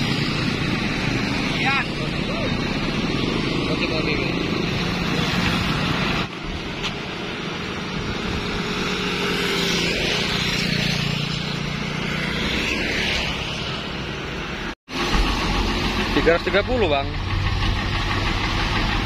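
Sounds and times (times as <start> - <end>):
motorbikes passing: 0.0 - 18.7
traffic passing on wet road: 0.0 - 19.0.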